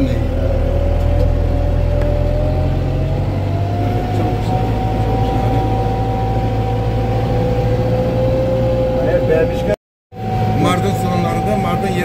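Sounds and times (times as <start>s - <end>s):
engine rumble with whine: 0.0s - 12.0s.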